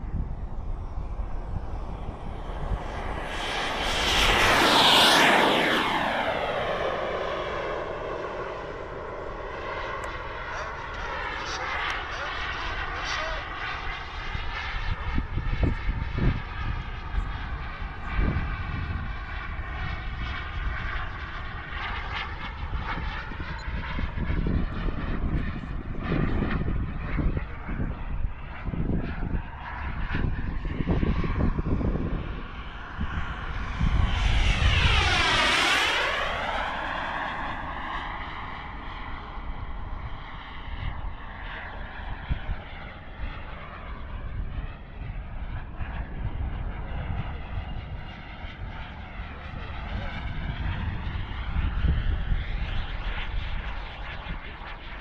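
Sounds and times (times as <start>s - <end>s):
model jet turbine whining: 0.0s - 55.0s
wind on microphone: 0.0s - 55.0s.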